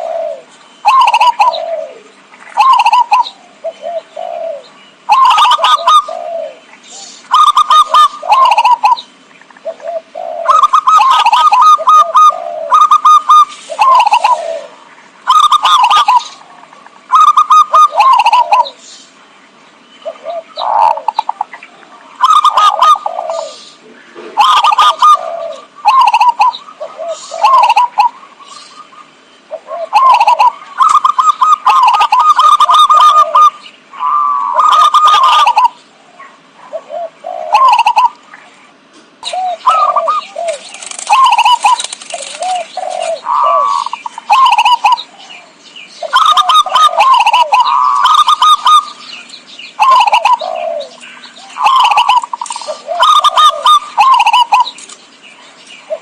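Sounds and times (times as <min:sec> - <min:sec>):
dove cooing: 0:00.0 - 0:18.9, 0:20.0 - 0:56.0.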